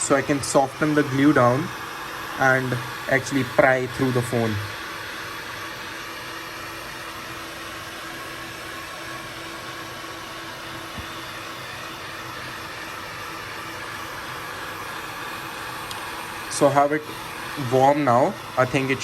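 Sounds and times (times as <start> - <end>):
heat gun blowing: 0.0 - 19.0.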